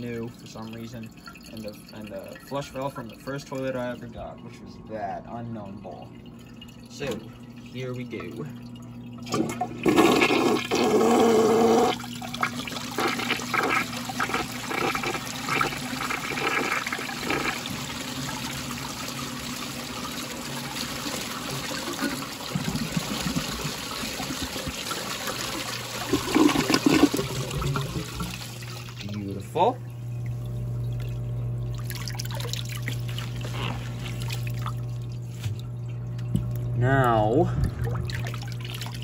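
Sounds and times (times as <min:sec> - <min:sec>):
toilet bowl gurgling: 0:00.0 - 0:39.0
toilet flushing: 0:00.0 - 0:39.0.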